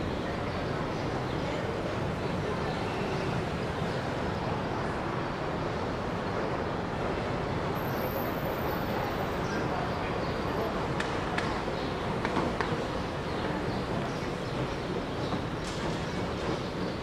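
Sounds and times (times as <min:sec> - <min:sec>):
station concourse rumble and hiss: 0:00.0 - 0:17.0.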